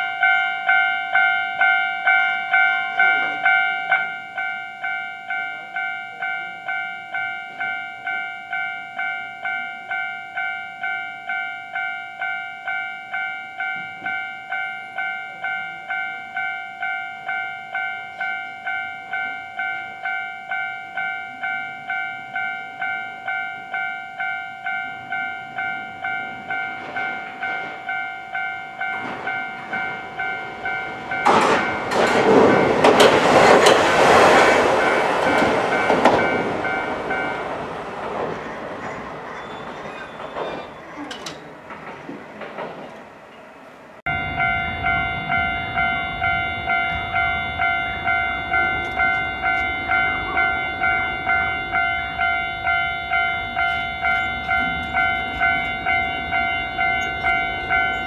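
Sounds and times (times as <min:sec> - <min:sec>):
level crossing warning bell: 0:00.0 - 0:41.7, 0:44.0 - 0:58.0
tram wheels on rails: 0:00.0 - 0:58.0.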